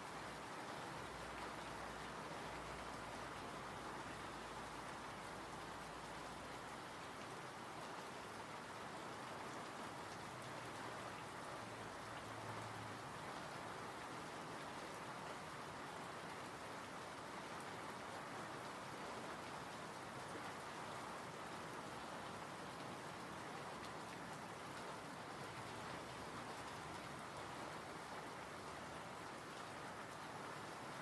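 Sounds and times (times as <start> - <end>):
rain falling steadily: 0.0 - 31.0.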